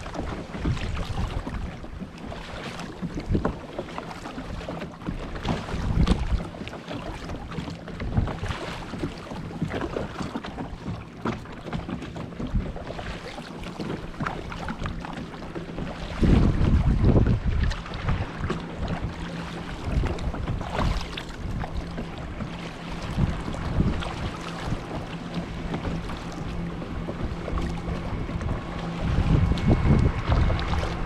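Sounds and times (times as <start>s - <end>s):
water splashing around kayak: 0.0s - 31.0s
wind buffeting microphone: 0.0s - 31.0s.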